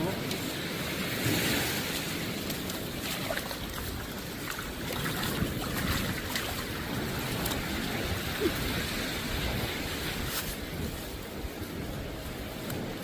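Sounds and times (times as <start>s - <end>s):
sea surf: 0.0s - 13.0s
wind noise: 0.0s - 13.0s.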